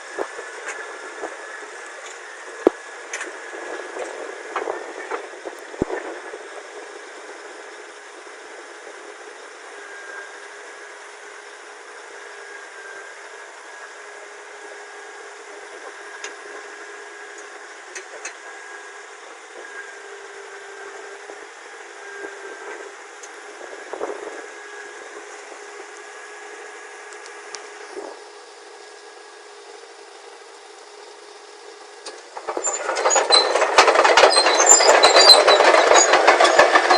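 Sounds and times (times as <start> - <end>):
bulldozer diesel engine running: 0.0 - 36.9.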